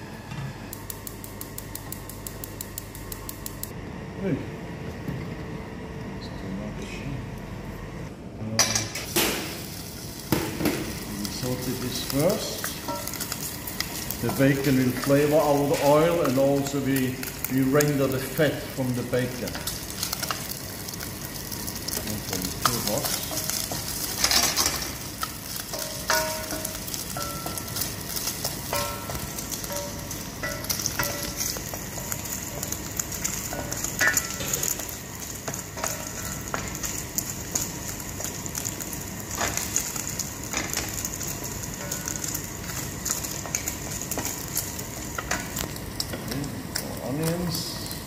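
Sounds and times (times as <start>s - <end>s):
bacon sizzling in oil: 9.1s - 48.0s.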